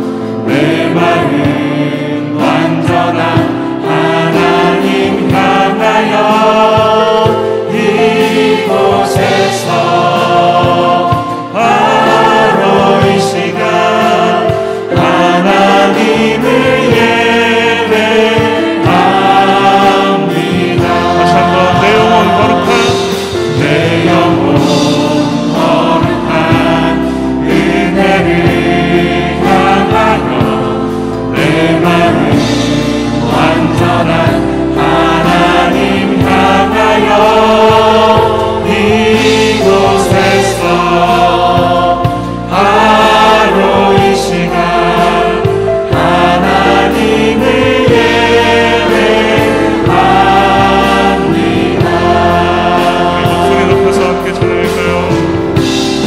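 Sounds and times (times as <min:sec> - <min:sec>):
band playing: 0:00.0 - 0:56.0
group singing praise song: 0:00.0 - 0:56.0.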